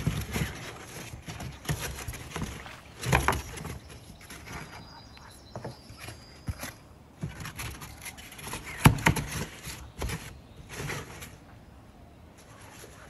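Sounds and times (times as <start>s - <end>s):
egg crates scraping and rustling: 0.0s - 11.7s, 12.3s - 13.0s.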